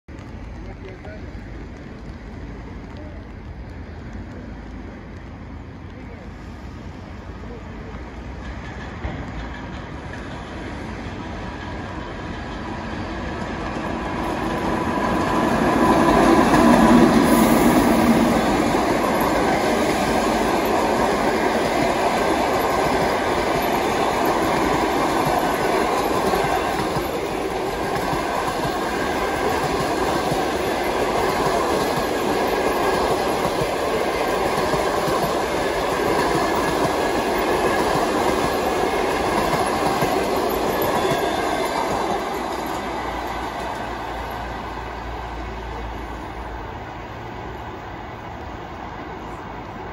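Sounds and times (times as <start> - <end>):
electric locomotive passing: 0.1 - 49.9
train wheels rolling on rails: 0.1 - 49.9.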